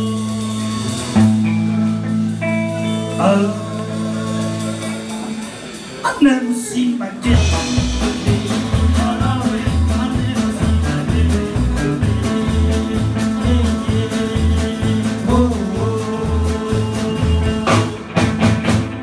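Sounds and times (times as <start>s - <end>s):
upright bass line: 0.0s - 5.7s, 7.2s - 19.0s
man singing: 0.0s - 18.5s
rockabilly band playing: 0.0s - 19.0s.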